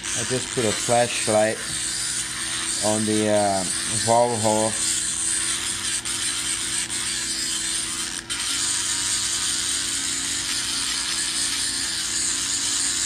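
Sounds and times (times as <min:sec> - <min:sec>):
rotary tool grinding metal: 0:00.0 - 0:13.0.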